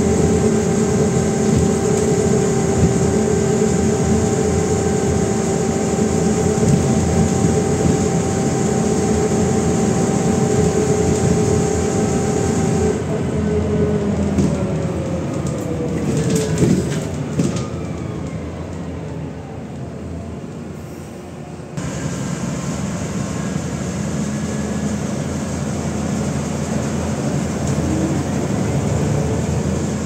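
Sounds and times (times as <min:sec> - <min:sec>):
bus engine rumble and whine: 0:00.0 - 0:30.0.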